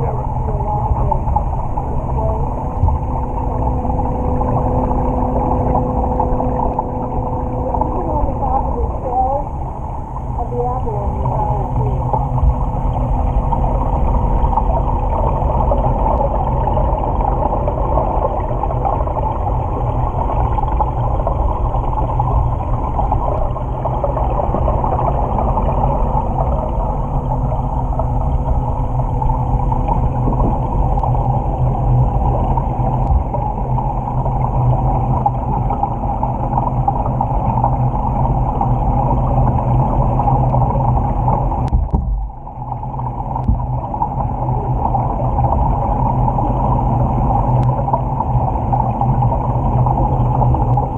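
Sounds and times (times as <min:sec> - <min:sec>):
constant hum: 0:00.0 - 0:50.9
muffled underwater rumble: 0:00.0 - 0:50.9.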